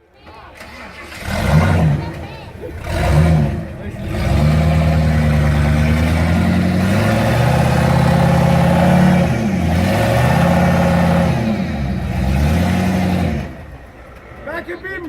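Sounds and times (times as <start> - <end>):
truck engine at high revs: 0.5 - 14.5.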